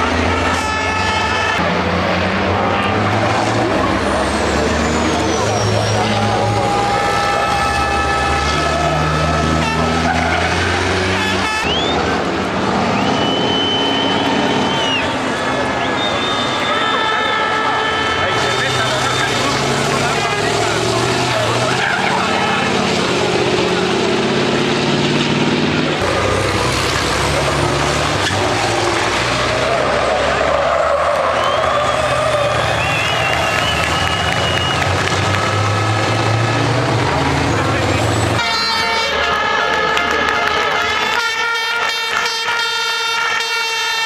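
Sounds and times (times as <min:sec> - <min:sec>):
diesel truck engines running: 0:00.0 - 0:44.0
tyre and road noise: 0:00.0 - 0:44.0.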